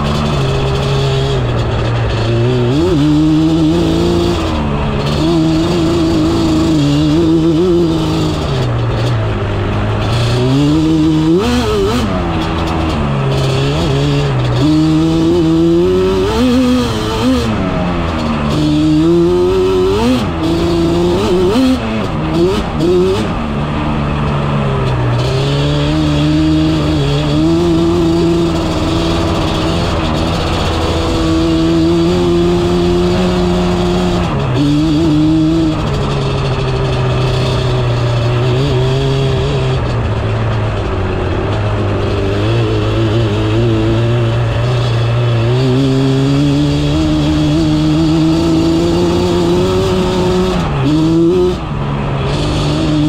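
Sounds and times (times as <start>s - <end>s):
quad engine revving: 0.0s - 53.0s.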